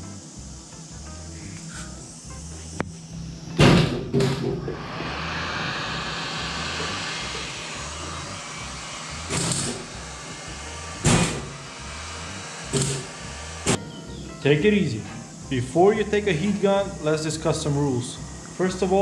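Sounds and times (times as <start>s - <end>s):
heat gun fan hiss: 0.0s - 13.8s, 14.6s - 19.0s.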